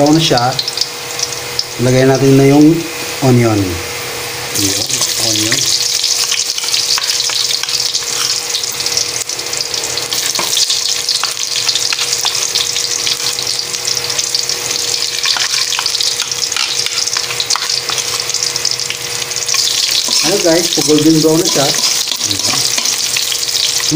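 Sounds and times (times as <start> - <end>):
onion sizzling in hot oil: 0.0 - 23.9.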